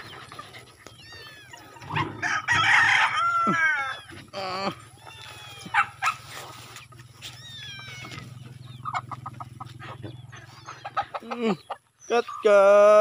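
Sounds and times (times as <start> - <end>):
chickens chirping: 0.0 - 13.0
chickens clucking and calling: 0.0 - 13.0.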